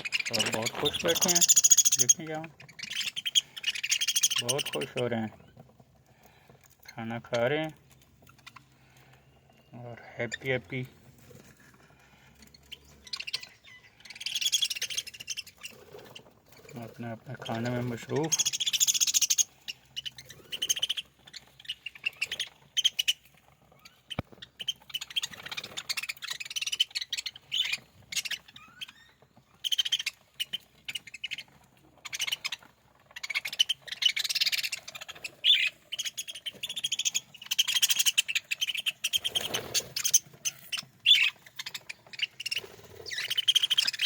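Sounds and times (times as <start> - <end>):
budgerigars chirping: 0.0 - 11.4, 12.0 - 44.0.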